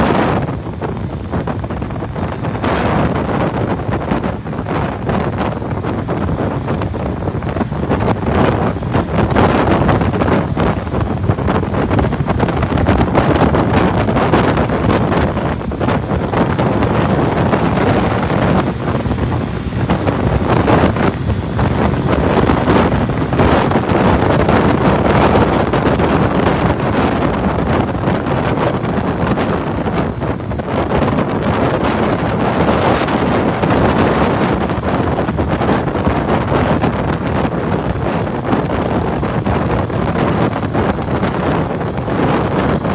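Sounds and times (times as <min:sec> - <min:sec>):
motorcycle running: 0:00.0 - 0:42.9
road noise: 0:00.0 - 0:42.9
wind buffeting microphone: 0:00.0 - 0:42.9.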